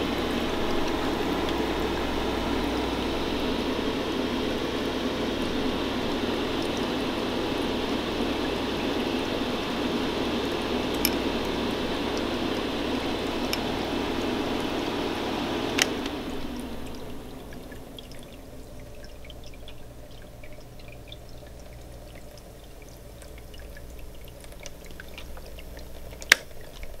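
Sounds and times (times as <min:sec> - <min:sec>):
fog machine whooshing hum: 0:00.0 - 0:26.4
faint ticking and dripping: 0:00.0 - 0:27.0.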